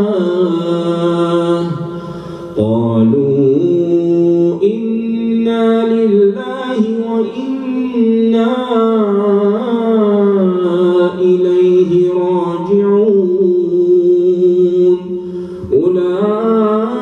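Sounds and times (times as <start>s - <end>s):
man reciting in melodic chant: 0.0s - 17.0s.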